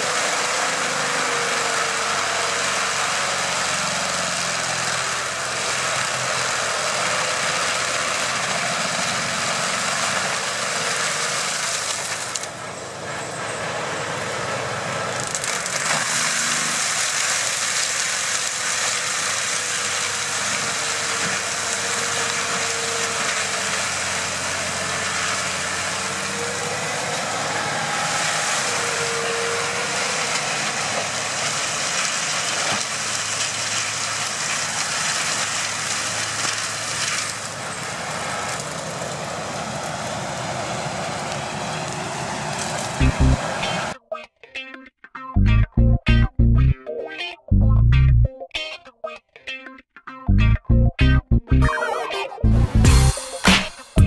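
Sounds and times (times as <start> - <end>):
forestry mulcher grinding brush: 0.0 - 44.0
tractor engine running: 0.0 - 44.0, 52.4 - 54.0.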